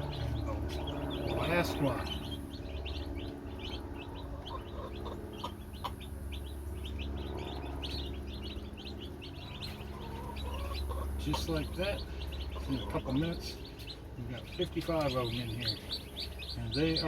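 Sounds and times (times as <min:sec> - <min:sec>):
chicks peeping: 0:00.0 - 0:17.0
steady low hum: 0:00.0 - 0:17.0.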